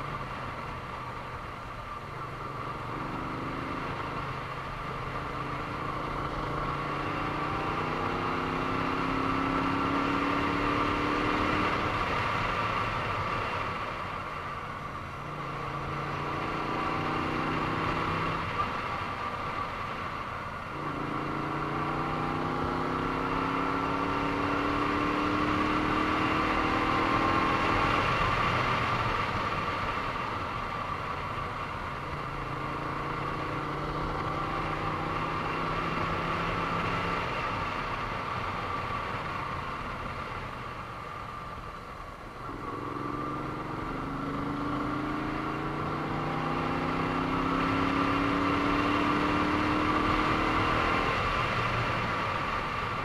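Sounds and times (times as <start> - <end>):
motorcycle engine accelerating: 2.1 - 40.5, 42.3 - 53.0.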